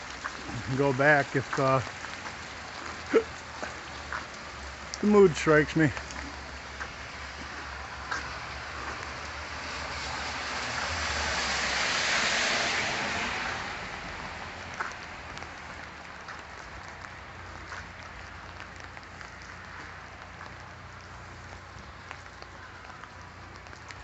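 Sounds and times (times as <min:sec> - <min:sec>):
steady rain: 0:00.0 - 0:24.0
vehicle tyres hissing on wet road: 0:00.0 - 0:24.0.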